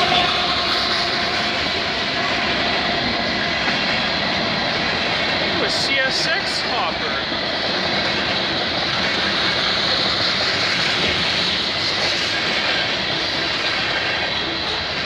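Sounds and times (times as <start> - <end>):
steel wheels rolling on rails: 0.0 - 15.0.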